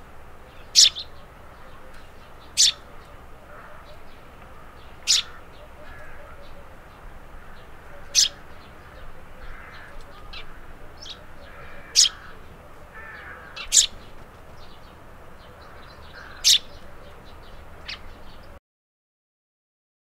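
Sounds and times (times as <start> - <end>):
sparrow calls: 0.5 - 18.6.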